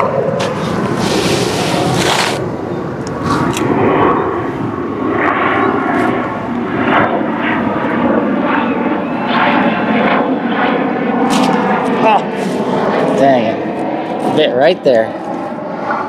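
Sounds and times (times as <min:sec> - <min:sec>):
loud engine-like drone: 0:00.0 - 0:16.0.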